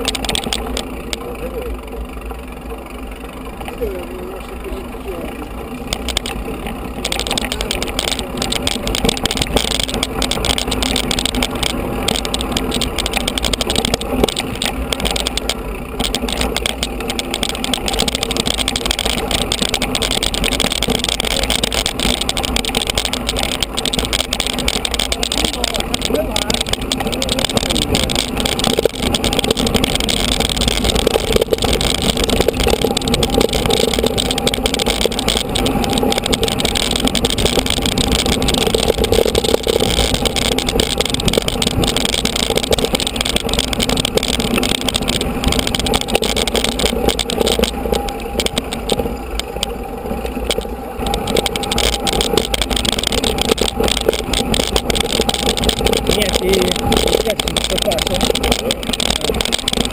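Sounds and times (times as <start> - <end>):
mountain bike rattling: 0.0 - 59.9.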